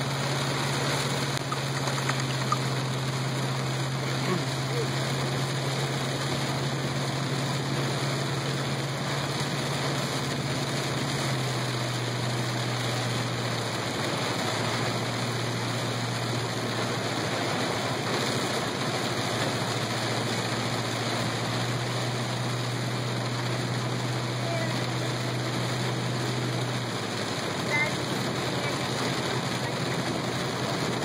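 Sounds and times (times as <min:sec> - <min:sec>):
heavy rain on car roof: 0:00.0 - 0:31.0
low engine hum: 0:00.0 - 0:31.0
wet road noise: 0:00.0 - 0:31.0.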